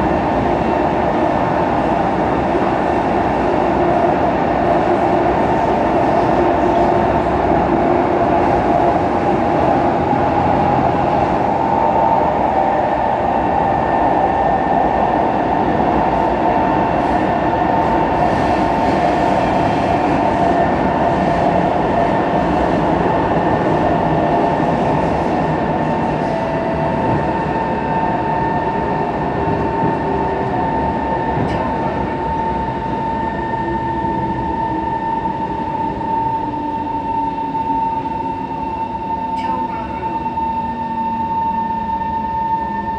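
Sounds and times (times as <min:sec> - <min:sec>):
train wheels rumbling on track: 0:00.0 - 0:42.9.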